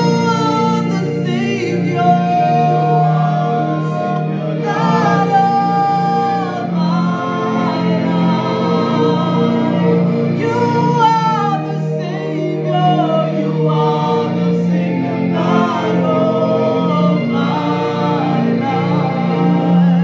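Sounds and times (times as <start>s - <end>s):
group singing a gospel song: 0.0s - 20.0s.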